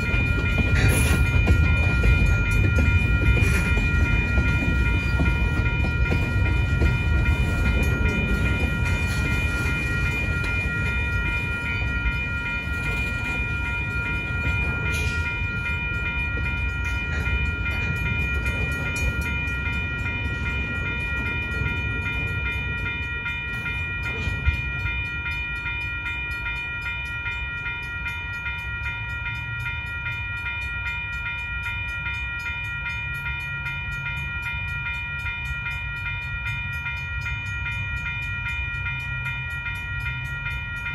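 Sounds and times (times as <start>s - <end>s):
electronic crossing bell ringing: 0.0s - 40.9s.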